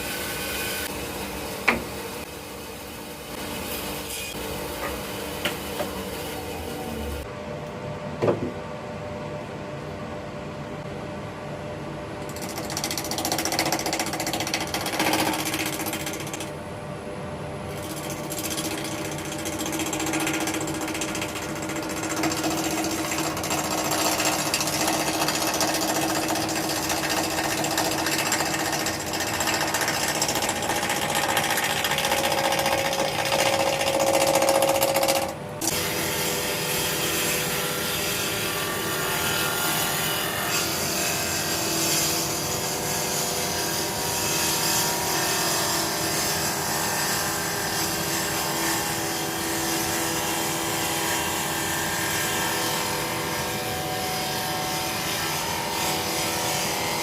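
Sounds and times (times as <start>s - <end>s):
dust extractor hum: 0.0s - 57.0s.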